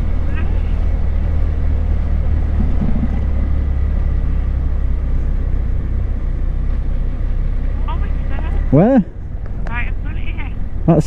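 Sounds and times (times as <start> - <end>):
motorcycle engine drone: 0.0 - 11.0
wind and road noise: 0.0 - 11.0.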